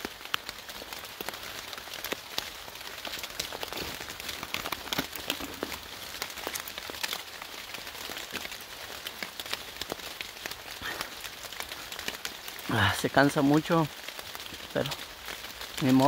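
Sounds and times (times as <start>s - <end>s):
rain pattering on foliage: 0.0s - 16.0s.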